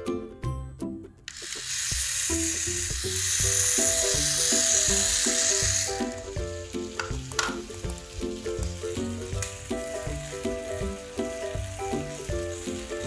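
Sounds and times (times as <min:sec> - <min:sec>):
steady hiss: 0:01.3 - 0:13.0
background music with bass line: 0:02.4 - 0:13.0.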